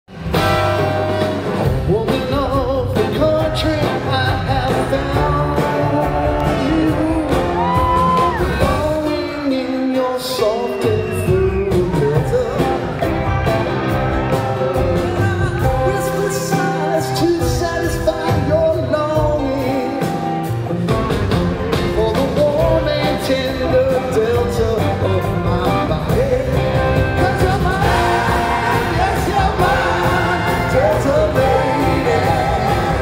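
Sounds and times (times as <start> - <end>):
live rock band: 0.1 - 33.0
person singing: 1.6 - 13.0, 14.4 - 21.0, 21.6 - 33.0.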